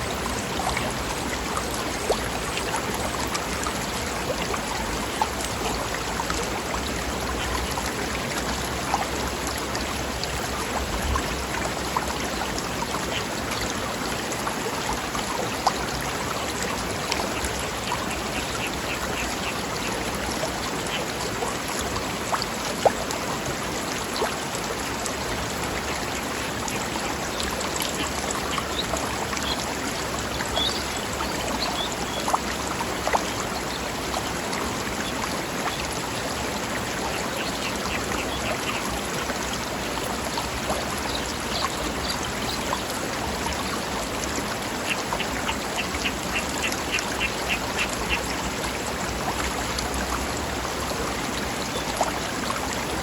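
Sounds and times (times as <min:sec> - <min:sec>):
stream flowing over rocks: 0:00.0 - 0:53.0.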